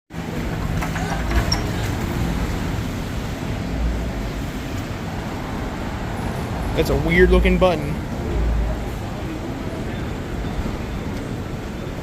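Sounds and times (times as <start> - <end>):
road traffic rumble: 0.1 - 12.0
vehicle engines running: 0.1 - 12.0.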